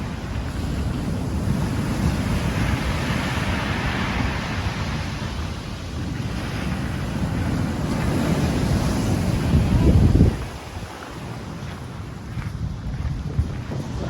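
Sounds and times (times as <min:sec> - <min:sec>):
surf on a beach: 0:00.0 - 0:14.0
wind buffeting microphone: 0:00.0 - 0:14.0.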